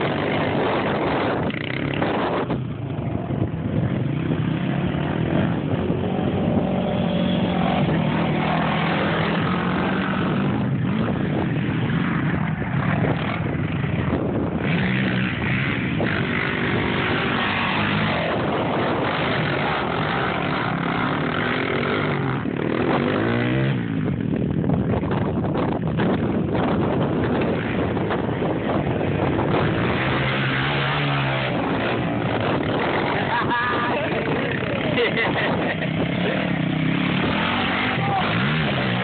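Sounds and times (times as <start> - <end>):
quad engines revving: 0.0 - 39.0.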